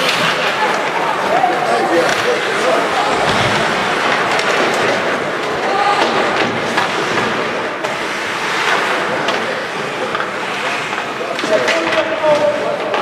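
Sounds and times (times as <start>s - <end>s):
hockey sticks and puck clacking: 0.0s - 13.0s
skates scraping on ice: 0.0s - 13.0s.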